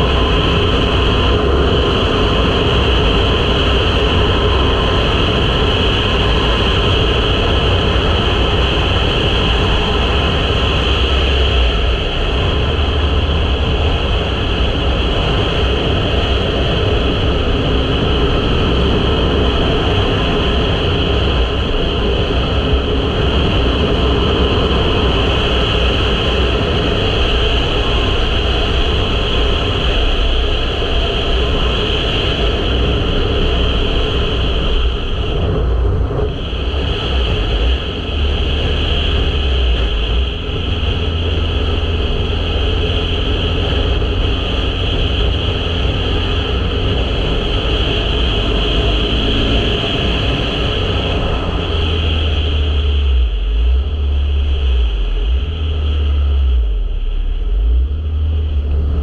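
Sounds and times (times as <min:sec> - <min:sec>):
wind rush over microphone: 0:00.0 - 0:59.0.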